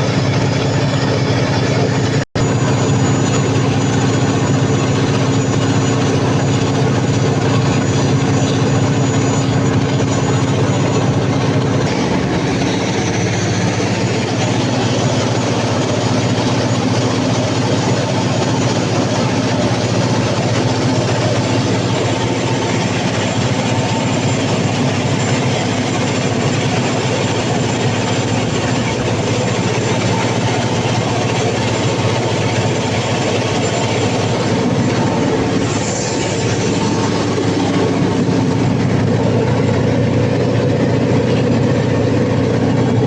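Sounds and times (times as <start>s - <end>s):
diesel generator engine running: 0.0s - 43.0s.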